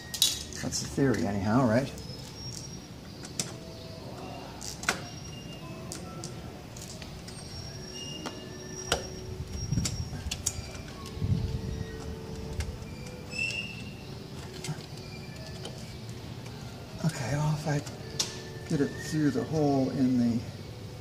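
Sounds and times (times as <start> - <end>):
metal parts and tools clicking: 0.0 - 19.0.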